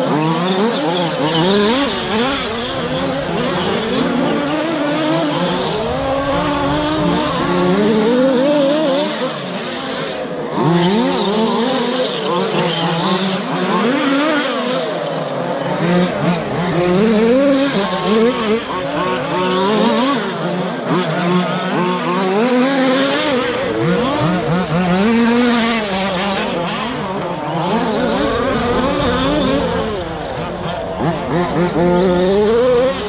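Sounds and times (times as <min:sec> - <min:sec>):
rc truck motors whining: 0:00.0 - 0:33.0.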